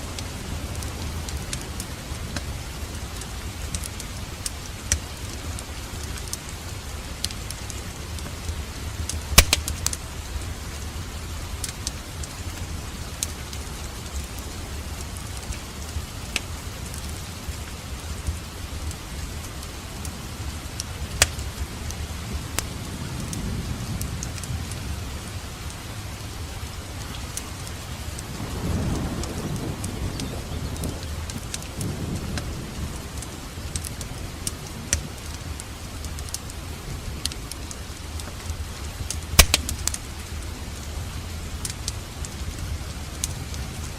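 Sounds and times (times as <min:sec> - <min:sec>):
wood fire crackling and popping: 0:00.0 - 0:23.4, 0:24.0 - 0:24.8, 0:26.8 - 0:43.9
fire flames rumbling: 0:00.0 - 0:43.9.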